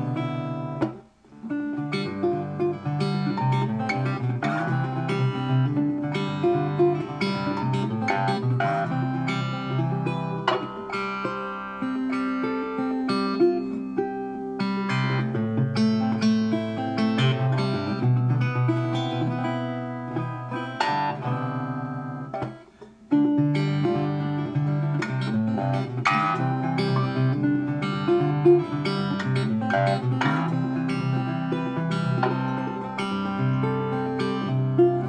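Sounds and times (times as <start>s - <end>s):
acoustic guitar music: 0.0s - 35.0s.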